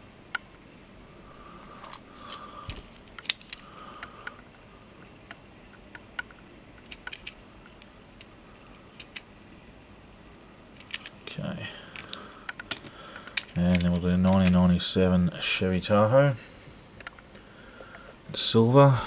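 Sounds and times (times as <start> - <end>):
faint whine: 0.0 - 19.0.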